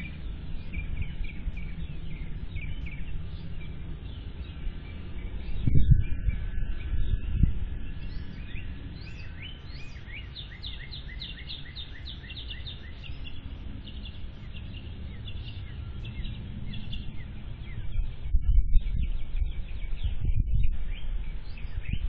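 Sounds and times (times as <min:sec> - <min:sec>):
songbird chirping fast: 0:00.0 - 0:22.0
steady low rumble: 0:00.0 - 0:22.0.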